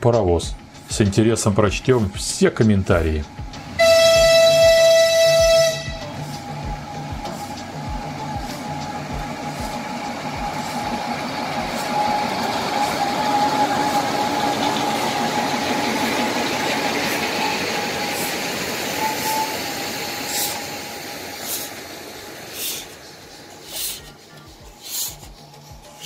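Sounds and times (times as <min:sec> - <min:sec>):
diesel locomotive passing: 0:00.0 - 0:26.0
high-pitched whine: 0:00.0 - 0:26.0.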